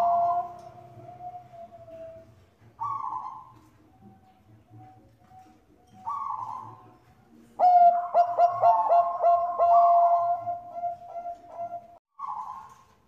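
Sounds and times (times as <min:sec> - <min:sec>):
dove cooing: 0:00.0 - 0:12.9.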